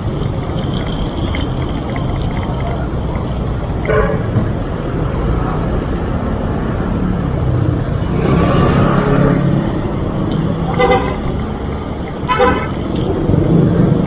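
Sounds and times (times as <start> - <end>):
motor vehicle passing: 0.0 - 14.0
wind and road noise: 0.0 - 14.0.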